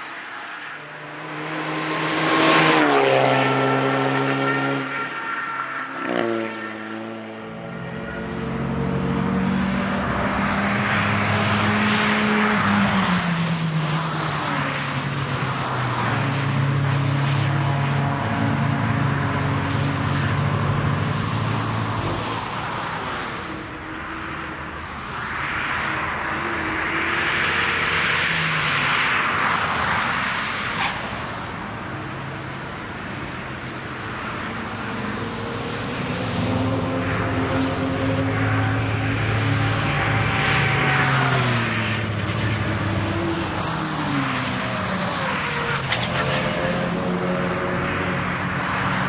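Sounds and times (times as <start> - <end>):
race cars passing at speed: 0.0 - 49.0.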